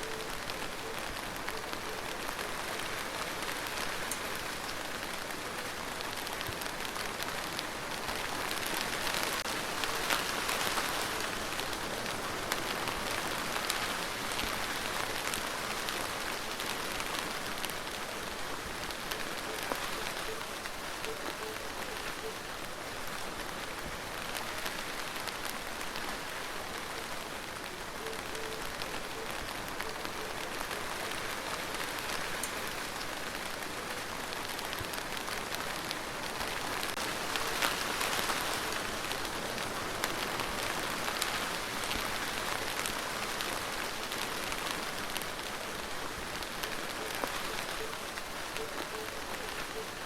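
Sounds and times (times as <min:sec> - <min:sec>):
rain falling on a surface: 0:00.0 - 0:50.0.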